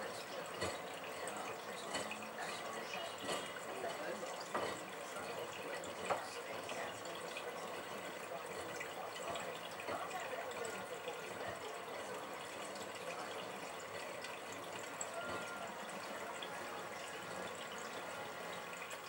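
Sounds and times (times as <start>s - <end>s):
water splashing in washing machine: 0.0s - 19.0s.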